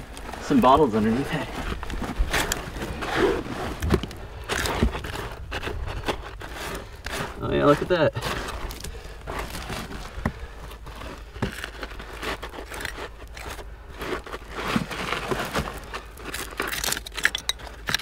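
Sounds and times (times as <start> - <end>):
hands scraping through coal ash: 0.0 - 18.0.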